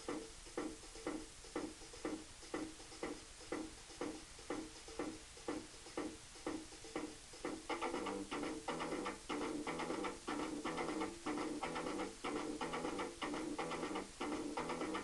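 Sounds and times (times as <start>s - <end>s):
backing track music: 0.0s - 15.0s
repeated muted tick: 0.0s - 15.0s.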